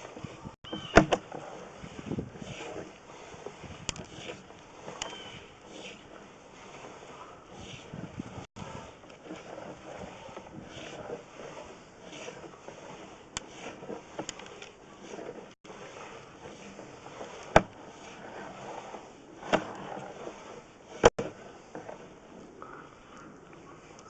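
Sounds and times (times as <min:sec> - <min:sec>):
inspection camera scraping in drain: 0:00.0 - 0:22.6.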